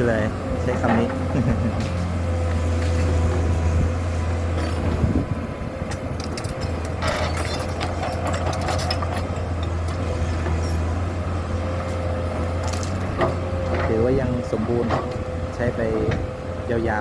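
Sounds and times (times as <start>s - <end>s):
constant whine: 0.0s - 17.0s
excavator diesel engine running: 0.0s - 17.0s.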